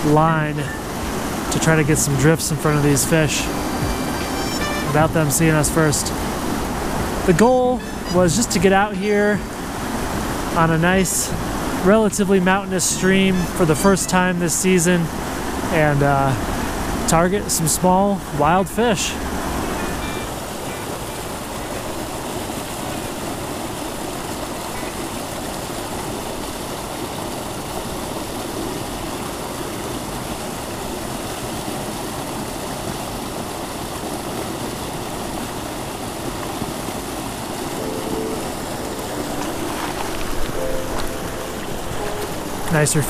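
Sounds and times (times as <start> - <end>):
mountain stream rushing over boulders: 0.0 - 43.0.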